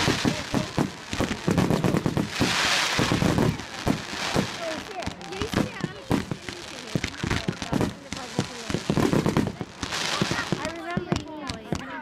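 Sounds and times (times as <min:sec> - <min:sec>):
crackling hiss of fireworks: 0:00.0 - 0:12.0
fireworks bangs and pops: 0:00.0 - 0:12.0.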